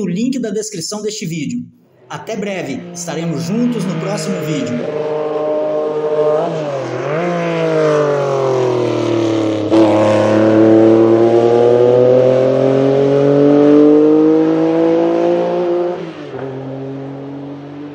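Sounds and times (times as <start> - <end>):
race car engine passing: 2.0 - 17.9.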